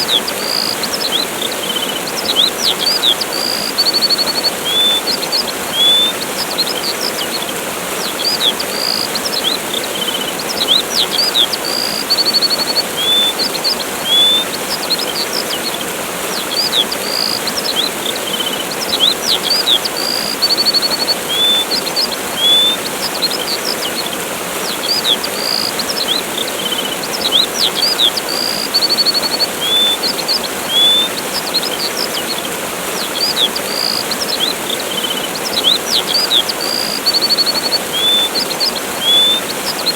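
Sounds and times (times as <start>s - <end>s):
songbirds chirping: 0.0s - 39.9s
waterfall rushing: 0.0s - 39.9s.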